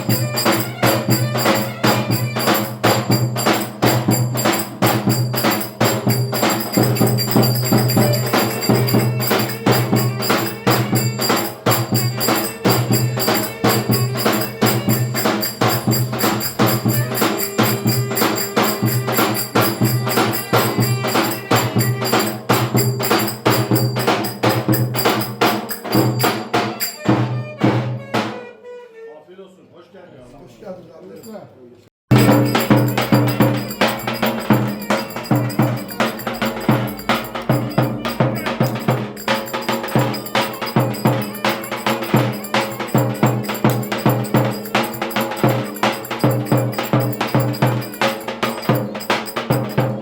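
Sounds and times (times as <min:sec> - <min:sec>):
fast folk dance music: 0:00.0 - 0:27.0, 0:32.1 - 0:50.0
rapid hand percussion: 0:00.0 - 0:28.4, 0:32.1 - 0:50.0.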